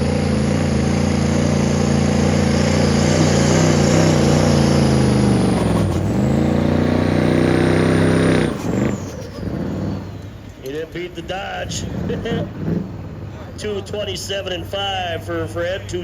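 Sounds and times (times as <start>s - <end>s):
diesel truck engine at full power: 0.0s - 16.0s.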